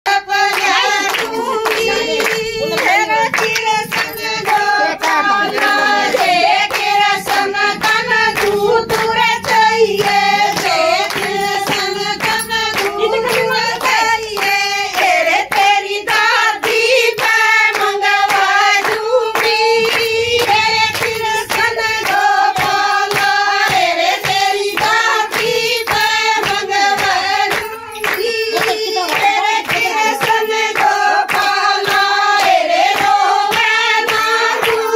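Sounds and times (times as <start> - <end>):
hand claps: 0.1 - 34.9
women singing folk song: 0.1 - 34.9.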